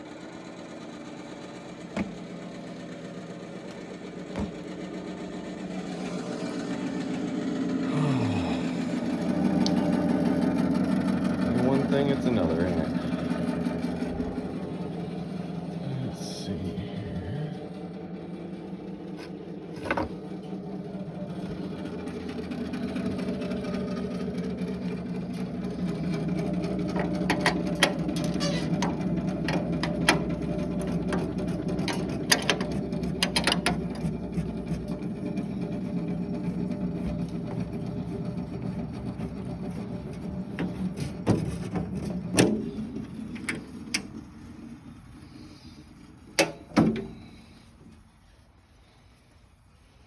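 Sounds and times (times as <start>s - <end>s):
small gasoline engine running: 0.0s - 50.0s.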